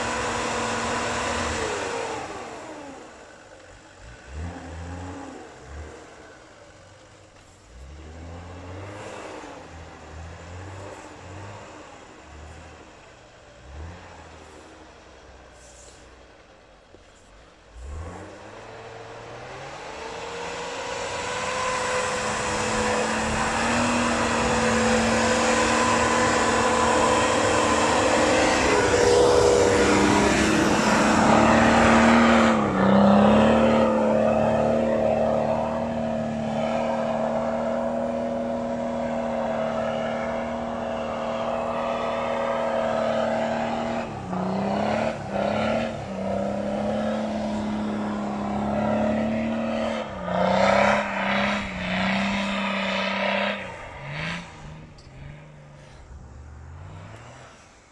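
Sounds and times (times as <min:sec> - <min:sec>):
suv engine driving through snow: 0:00.0 - 0:57.9.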